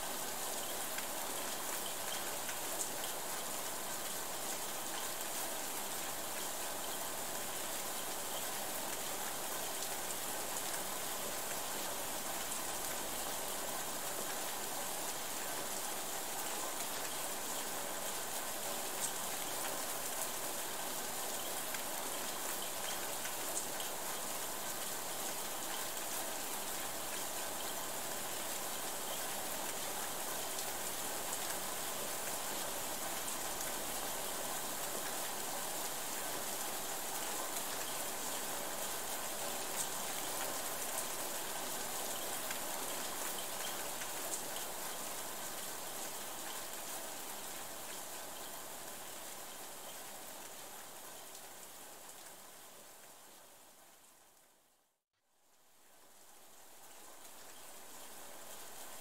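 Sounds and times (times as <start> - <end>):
rain on leaves and water: 0.0 - 59.0.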